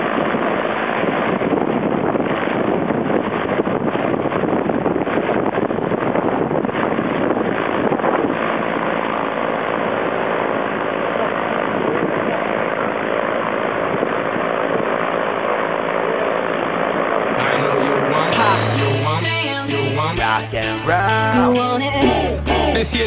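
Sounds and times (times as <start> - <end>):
propeller aircraft engine running: 0.0 - 21.4.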